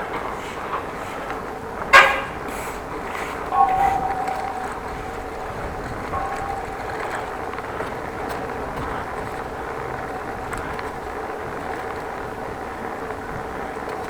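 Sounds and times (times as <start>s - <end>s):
wind and road noise of bicycle: 0.0s - 14.0s.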